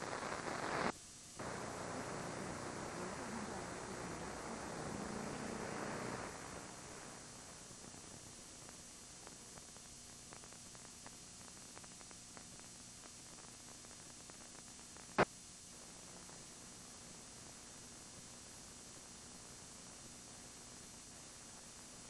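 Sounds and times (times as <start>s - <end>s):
faint hum and hiss: 0.0s - 22.0s.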